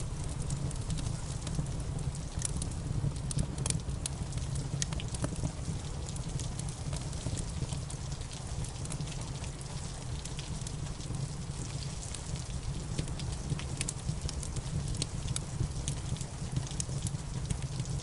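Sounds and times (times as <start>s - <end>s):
fireplace fire crackling: 0.0s - 18.0s
steady rain: 0.0s - 18.0s.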